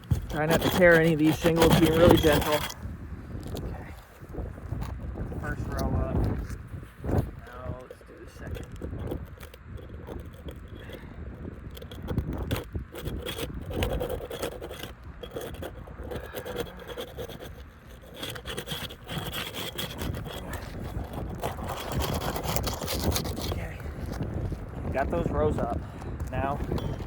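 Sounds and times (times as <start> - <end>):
shingles scraping and crackling: 0.0 - 27.0.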